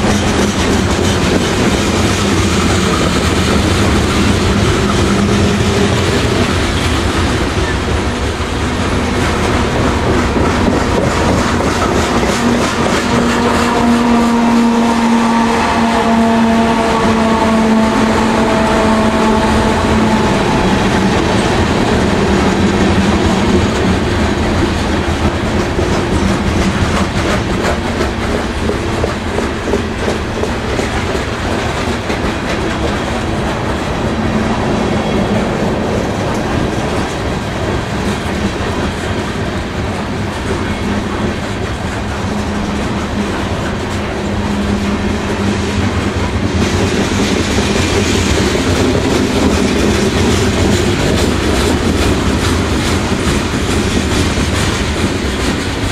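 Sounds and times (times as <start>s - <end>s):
train cars clicking over rail joints: 0.0s - 34.6s, 35.7s - 55.9s
diesel locomotive drone: 0.0s - 55.9s.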